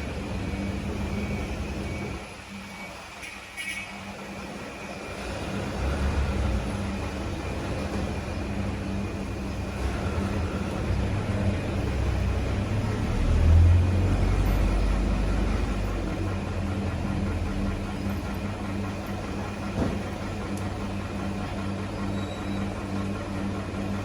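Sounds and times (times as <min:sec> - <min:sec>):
machine humming: 0:04.1 - 0:24.0.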